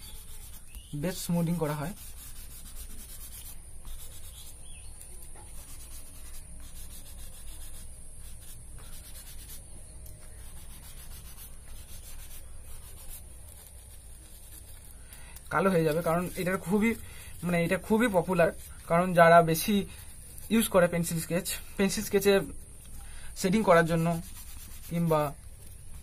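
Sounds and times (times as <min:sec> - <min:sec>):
tissue rubbing on paper: 0:00.0 - 0:22.6, 0:23.4 - 0:26.0.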